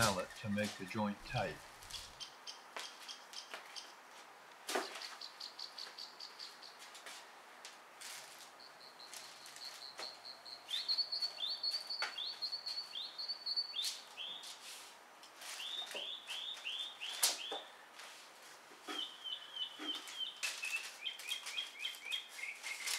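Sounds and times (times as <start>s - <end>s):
songbird singing: 0.0s - 4.1s, 4.8s - 7.2s, 8.5s - 14.6s, 15.4s - 18.0s, 18.8s - 22.9s.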